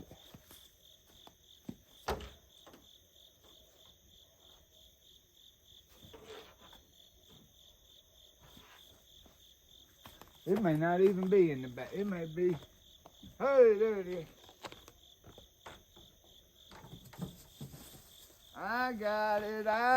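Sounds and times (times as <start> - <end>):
crickets chirping: 0.0 - 19.9.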